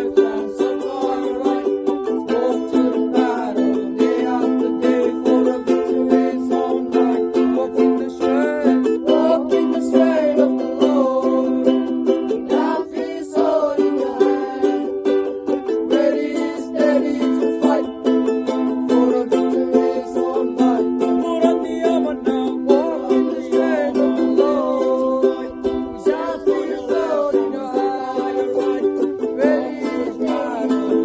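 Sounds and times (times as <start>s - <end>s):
strummed ukulele music: 0.0s - 31.0s.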